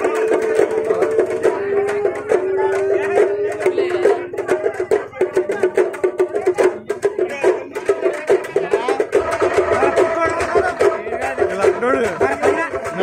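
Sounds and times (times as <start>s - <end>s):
fast dense drums: 0.0s - 13.0s
held melody line: 0.0s - 13.0s.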